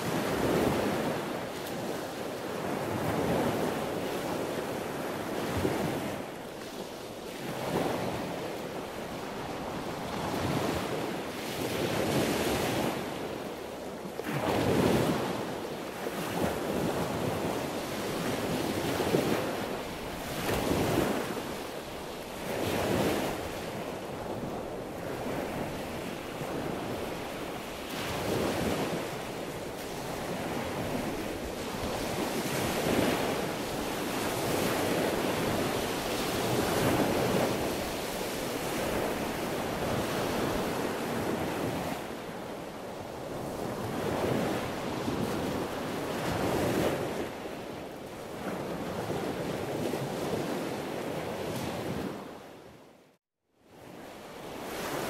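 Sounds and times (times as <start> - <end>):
sea waves breaking: 0.0 - 52.4, 54.2 - 55.0.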